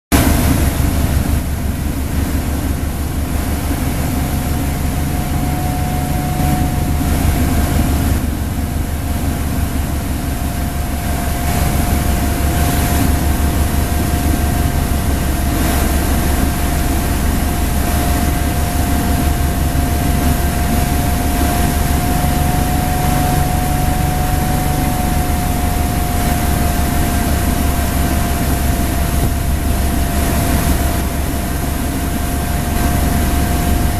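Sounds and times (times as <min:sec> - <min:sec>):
motorboat engine drone: 0:00.1 - 0:33.9
rushing wake water: 0:00.1 - 0:33.9.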